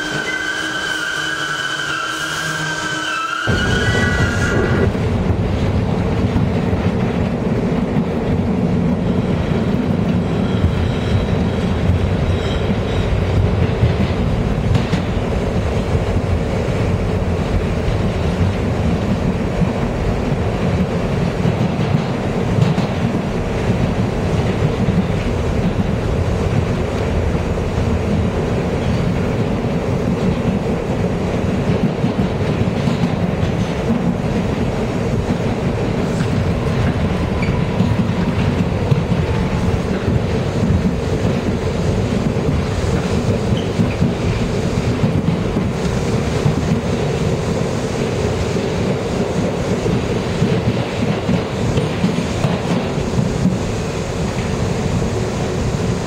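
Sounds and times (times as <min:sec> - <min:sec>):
subway wheels rumbling on rail: 0:00.0 - 0:56.0.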